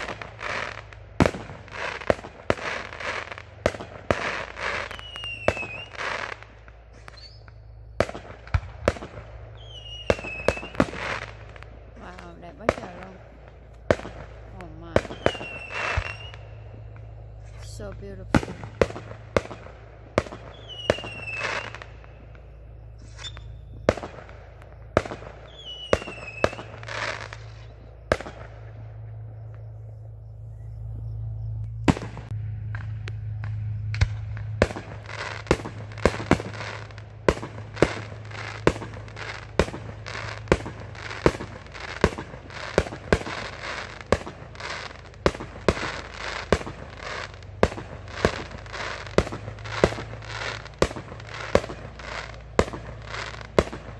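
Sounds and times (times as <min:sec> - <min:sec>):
fireworks shells bursting: 0:00.0 - 0:30.0, 0:31.6 - 0:53.9
firework whistles: 0:00.0 - 0:53.9.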